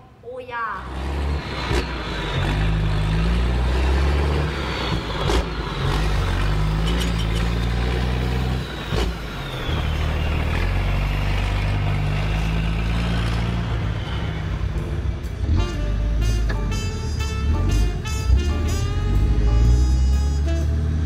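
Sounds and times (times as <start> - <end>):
simulated diesel truck engine: 0.7 - 21.0.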